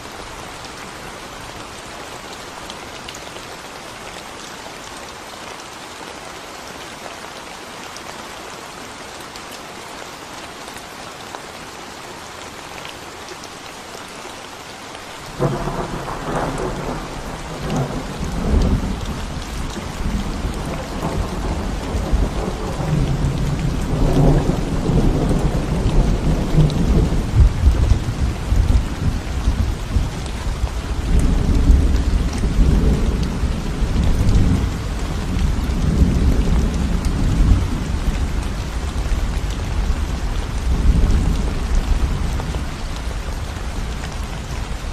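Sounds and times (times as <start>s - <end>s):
rain on concrete road: 0.0s - 44.9s.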